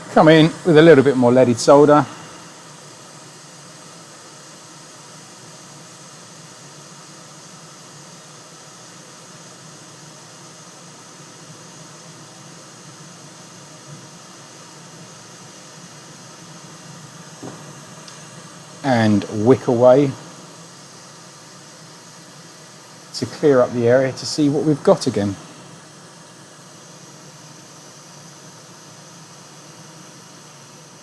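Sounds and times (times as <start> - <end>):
small blower hissing: 0.0 - 31.0.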